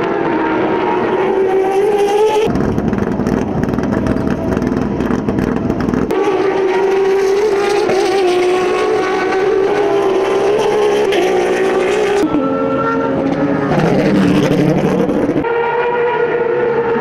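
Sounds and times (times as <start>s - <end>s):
high-revving race car engine: 0.0s - 17.0s
race car passing with rough exhaust: 0.0s - 17.0s.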